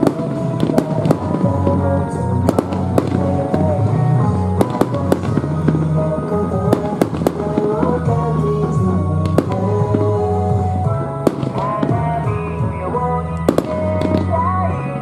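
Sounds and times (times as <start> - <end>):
fireworks bursting: 0.0 - 15.0
music with held notes and bass: 0.0 - 15.0.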